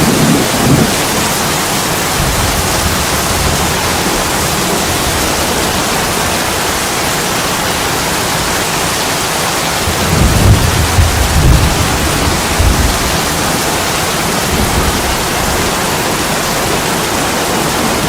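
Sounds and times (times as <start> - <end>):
thunder rumble: 0.0 - 6.9, 9.8 - 18.0
heavy rain on window glass: 0.0 - 18.0.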